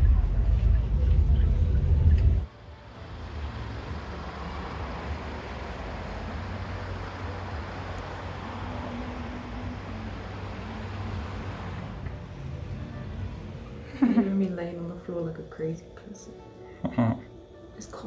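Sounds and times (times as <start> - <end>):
traffic road noise: 0.0 - 14.5.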